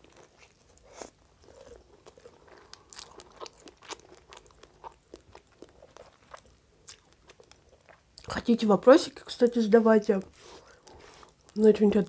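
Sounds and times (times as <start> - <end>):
chewing crunchy pastry: 0.0 - 12.0.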